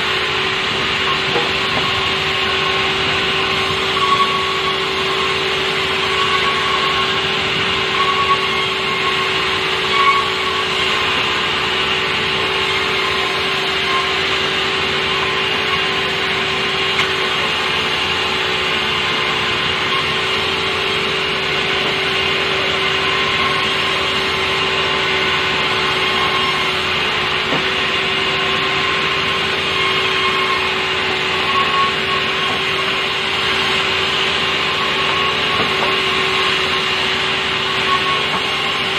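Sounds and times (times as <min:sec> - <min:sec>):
sawmill saw cutting wood: 0:00.0 - 0:38.9.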